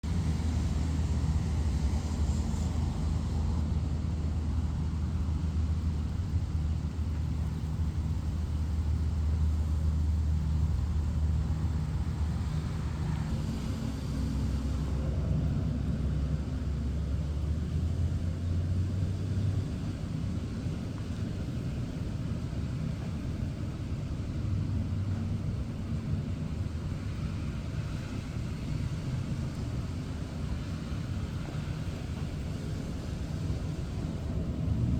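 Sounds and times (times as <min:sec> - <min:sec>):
passing vehicles engine rumble: 0:00.0 - 0:34.9
rain hissing: 0:00.0 - 0:34.9.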